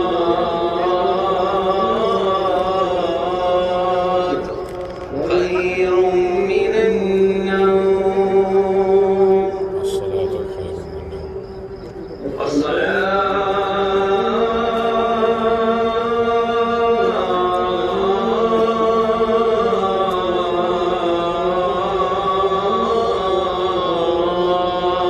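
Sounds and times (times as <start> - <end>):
person chanting in held notes: 0.0 - 4.6, 5.2 - 11.5, 12.3 - 25.0.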